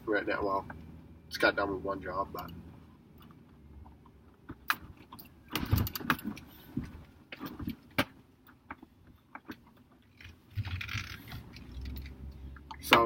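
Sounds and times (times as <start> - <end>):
clicks and rattles in vehicle cabin: 2.3 - 13.0.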